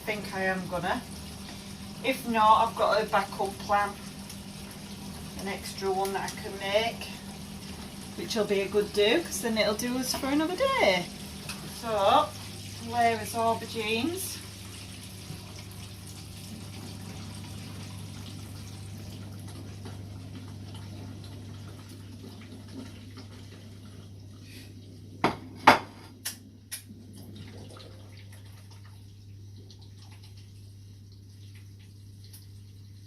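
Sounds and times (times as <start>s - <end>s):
background hum and hiss: 0.0s - 33.0s.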